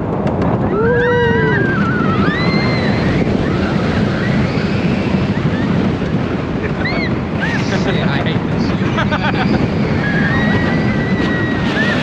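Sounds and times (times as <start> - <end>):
roller coaster train rumbling: 0.0 - 12.0
wind rushing over microphone: 0.0 - 12.0
riders screaming: 0.6 - 7.9, 9.2 - 12.0.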